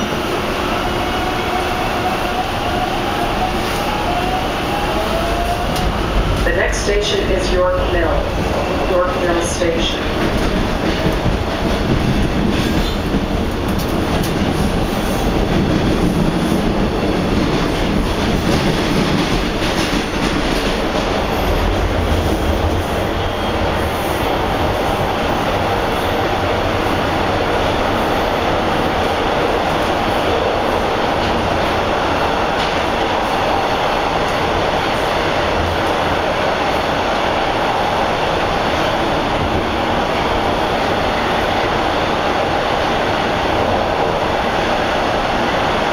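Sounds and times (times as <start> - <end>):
subway car wheels rumbling on rail: 0.0 - 45.9.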